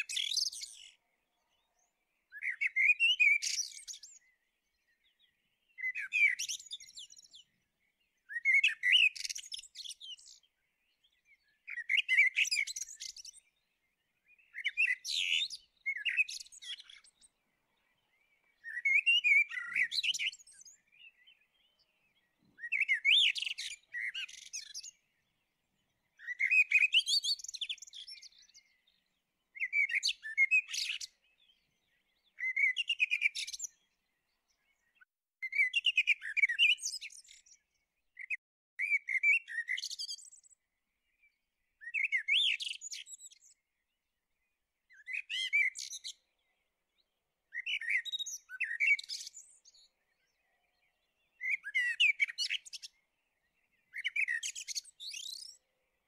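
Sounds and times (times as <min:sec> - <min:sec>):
blackbird singing: 0:00.0 - 0:56.0.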